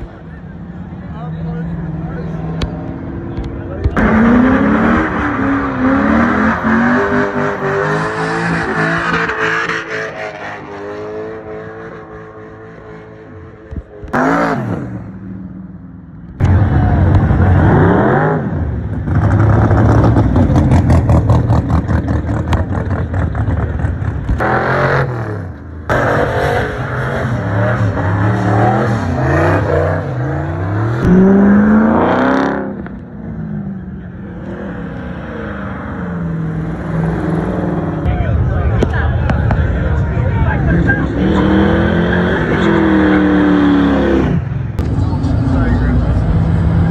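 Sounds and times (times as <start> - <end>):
car engines revving hard: 0.0 - 46.9.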